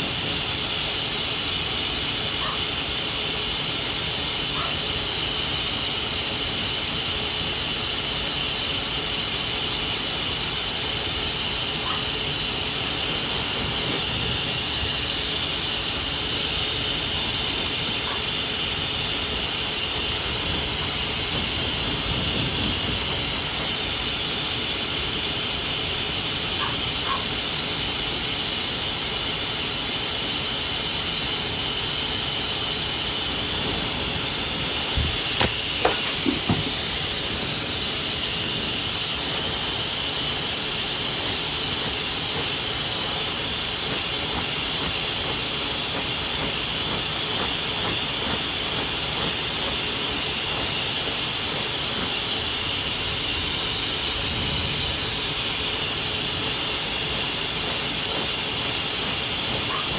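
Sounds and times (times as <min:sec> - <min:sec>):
blow dryer hissing: 0:00.0 - 0:59.9.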